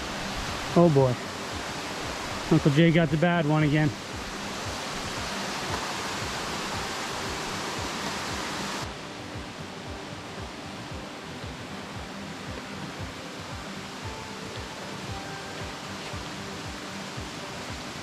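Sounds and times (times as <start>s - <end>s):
creek water rushing down waterfall: 0.0s - 18.0s.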